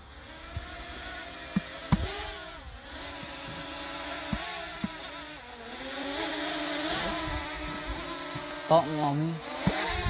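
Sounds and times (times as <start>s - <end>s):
drone propellers buzzing: 0.0s - 10.0s.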